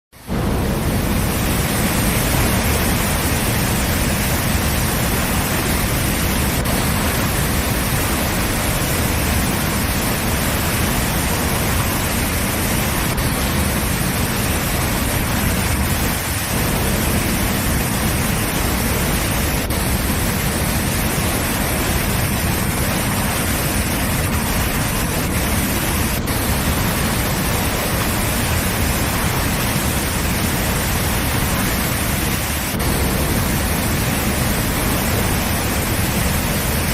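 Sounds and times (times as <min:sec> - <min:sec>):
waterfall: 0:00.2 - 0:36.9.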